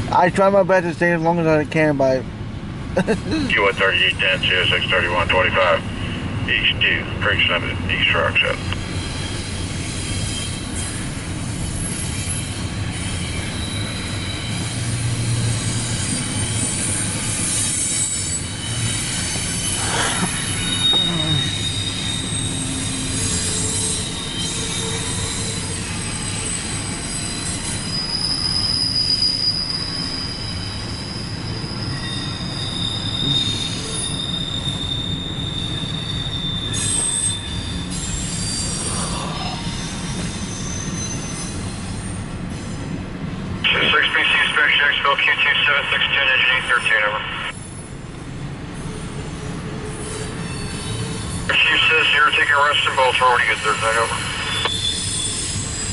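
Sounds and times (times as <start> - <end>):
freight train rumbling past: 0.0 - 55.9
train wheels squealing: 3.5 - 55.9.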